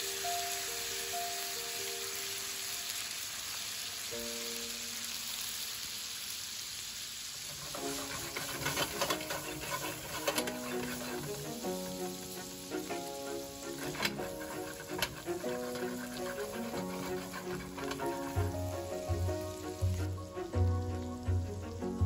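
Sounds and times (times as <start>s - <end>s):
butter sizzling in a frying pan: 0.0s - 22.0s.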